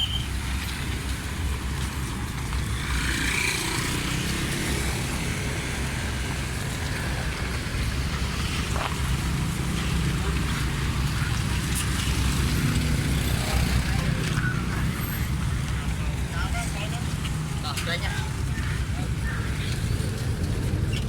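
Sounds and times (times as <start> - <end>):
busy background noise: 0.0 - 21.0.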